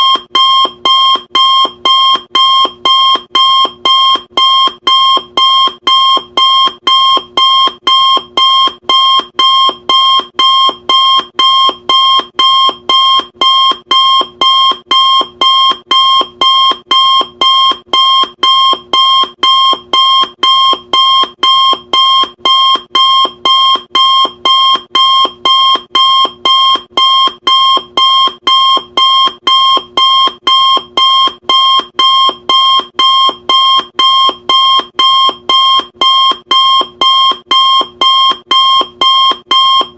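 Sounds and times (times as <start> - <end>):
timer alarm beeping: 0.0 - 39.9.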